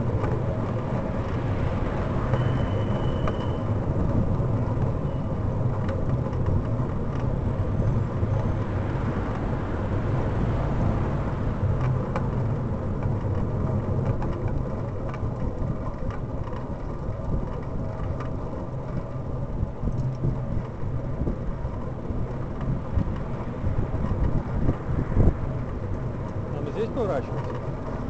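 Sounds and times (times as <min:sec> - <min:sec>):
faint clicks and rattles: 0:00.0 - 0:28.0
tyre noise on road: 0:00.0 - 0:28.0
wind rumbling on microphone: 0:00.0 - 0:28.0.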